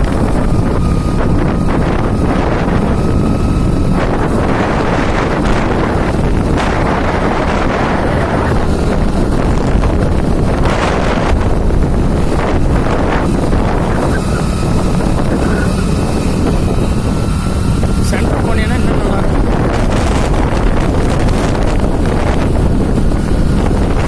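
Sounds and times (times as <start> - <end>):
motorbike engine running: 0.0 - 24.0
wind buffeting microphone: 0.0 - 24.0.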